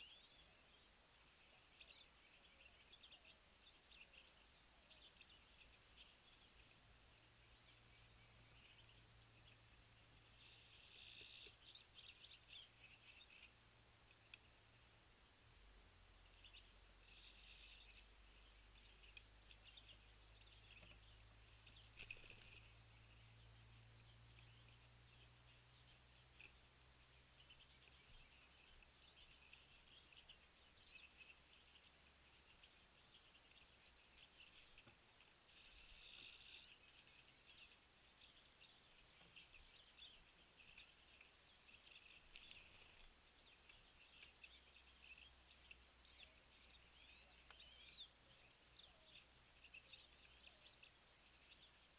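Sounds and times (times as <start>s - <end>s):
small birds twittering: 0.0s - 51.9s
small songbirds chirping: 0.0s - 51.9s
steady low hum: 0.0s - 51.9s.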